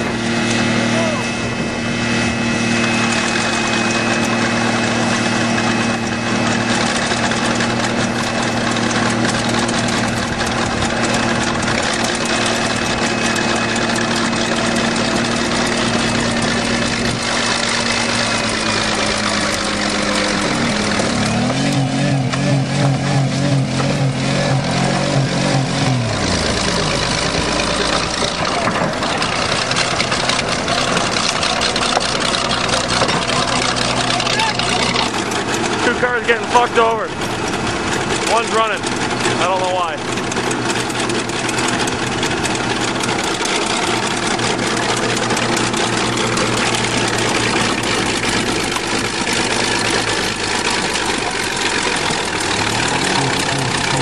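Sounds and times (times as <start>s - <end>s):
car engine running fast: 0.0s - 54.0s.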